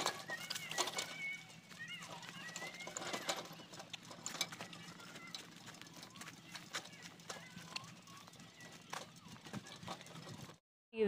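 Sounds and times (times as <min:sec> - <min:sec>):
bicycle rattling and clicking: 0:00.0 - 0:10.6.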